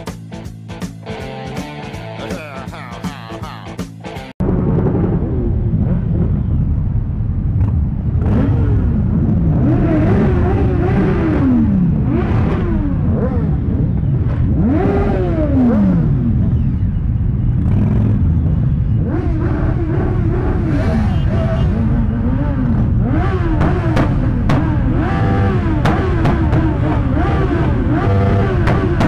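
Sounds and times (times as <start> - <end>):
motorcycle engines revving: 4.4 - 29.0.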